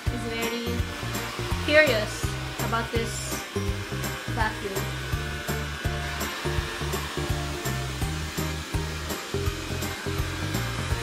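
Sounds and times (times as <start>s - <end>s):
music with walking bass line: 0.0s - 11.0s
robot vacuum suction fan whir: 0.0s - 11.0s.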